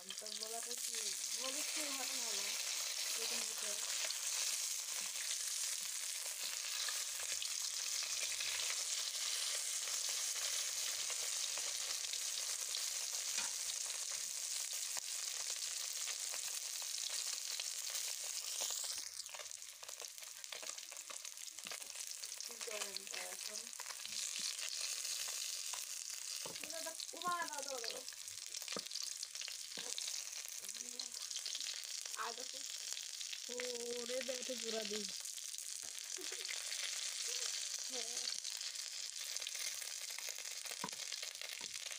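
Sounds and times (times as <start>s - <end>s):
fish sizzling in hot oil: 0.0s - 41.9s.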